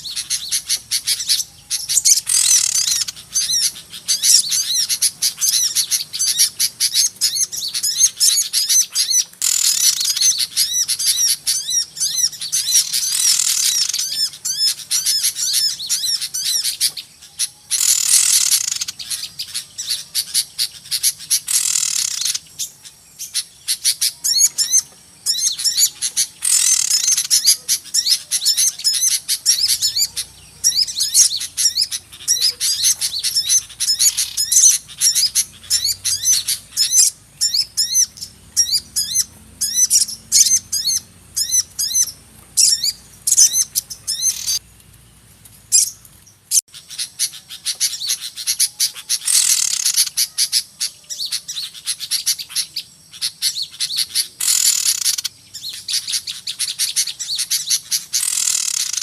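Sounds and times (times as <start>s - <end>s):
harsh rasping bird calls: 0.0s - 45.0s, 45.6s - 59.0s
flock of small birds chirping: 0.0s - 59.0s.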